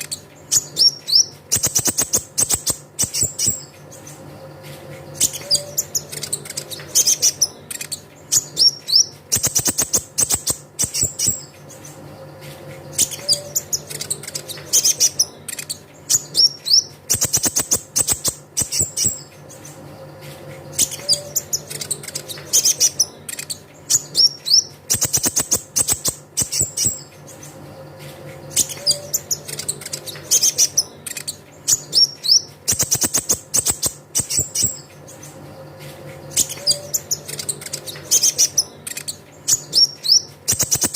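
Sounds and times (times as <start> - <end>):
steady low hum: 0.0 - 40.9
sunbird song with trills: 0.0 - 40.9.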